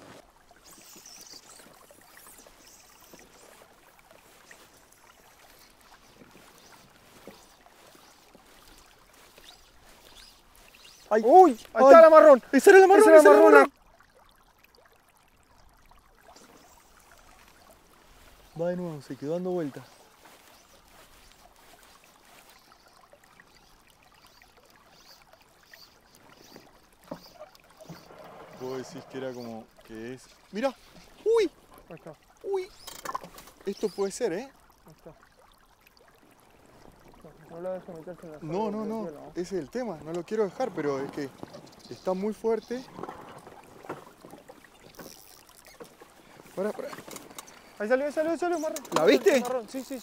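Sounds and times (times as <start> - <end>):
oars dipping in water: 0.0 - 50.0
soft water splashes and drips: 0.0 - 50.0.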